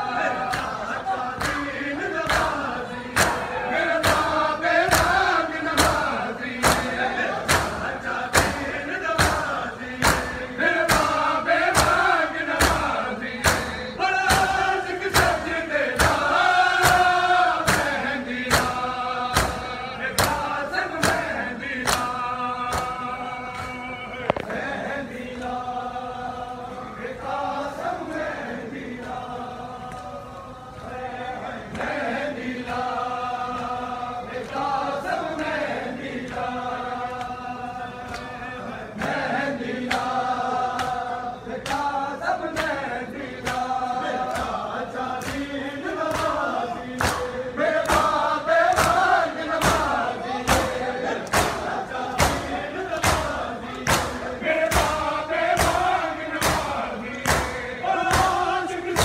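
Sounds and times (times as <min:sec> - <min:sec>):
men chanting in unison: 0:00.0 - 0:59.0
rhythmic chest-beating slaps: 0:00.0 - 0:59.0.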